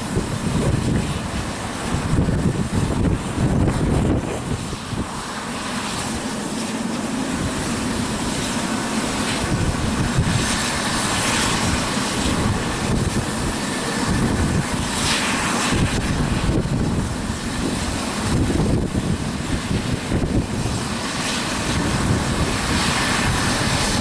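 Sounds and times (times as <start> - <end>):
helicopter engines whining: 0.0 - 24.0
helicopter rotor blades beating: 0.0 - 24.0.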